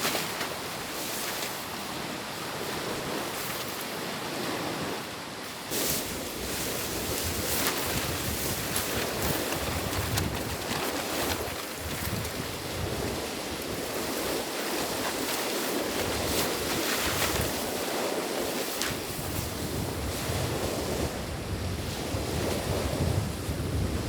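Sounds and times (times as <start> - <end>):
waves washing on shore: 0.0 - 24.0
wind gusting over microphone: 0.0 - 24.0.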